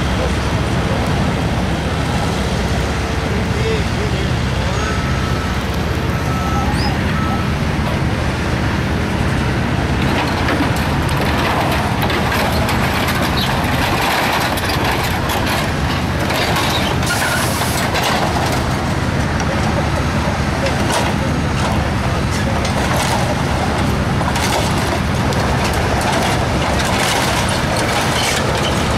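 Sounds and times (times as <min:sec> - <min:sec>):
heavy diesel engines running: 0:00.0 - 0:28.9
highway traffic noise: 0:00.0 - 0:28.9.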